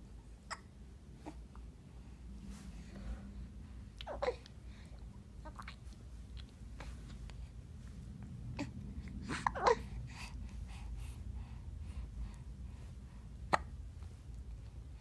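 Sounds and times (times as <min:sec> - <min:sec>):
faint breaths: 0:01.2 - 0:05.4, 0:06.4 - 0:15.0.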